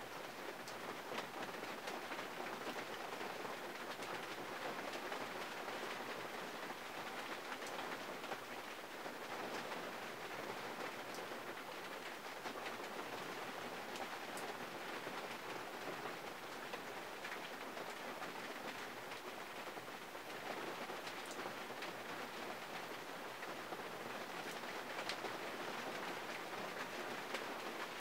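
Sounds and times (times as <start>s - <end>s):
rain on a car roof and glass: 0.0s - 28.0s.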